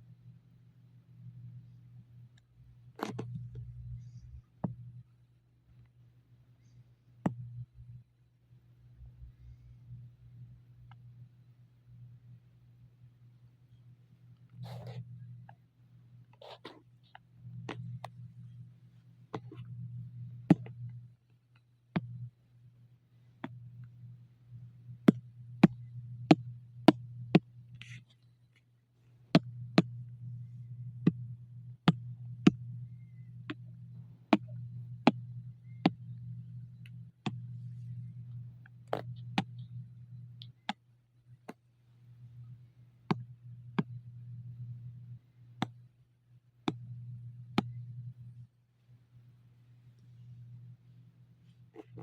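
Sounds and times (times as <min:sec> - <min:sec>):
low hum: 0:00.0 - 0:28.4, 0:29.3 - 0:52.0.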